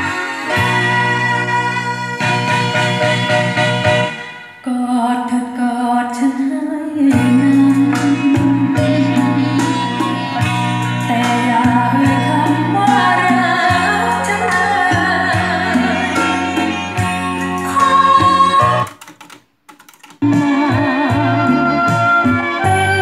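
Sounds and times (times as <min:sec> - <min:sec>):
song over loudspeakers: 0:00.0 - 0:19.2, 0:20.2 - 0:23.0.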